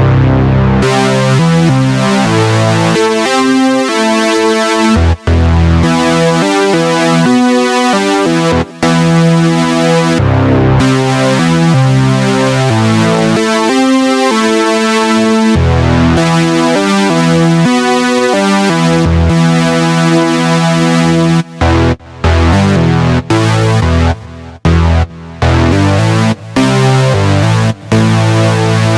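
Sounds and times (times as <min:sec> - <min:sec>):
stepping bass line: 0:00.0 - 0:28.9
synthesizer chords: 0:00.0 - 0:28.9.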